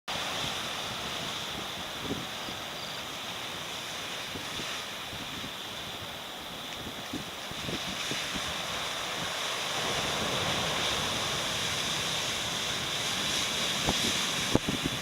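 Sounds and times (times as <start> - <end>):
waves breaking: 0.1 - 15.0
wind on microphone: 0.1 - 15.0.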